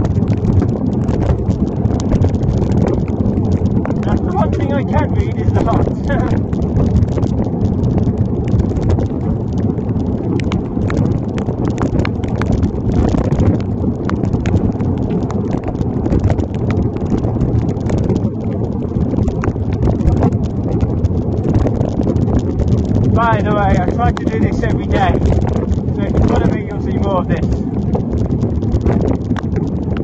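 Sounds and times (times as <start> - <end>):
rain tapping on plastic bag: 0.0 - 30.0
tyres on wet road: 0.0 - 30.0
wind rumble: 0.0 - 30.0.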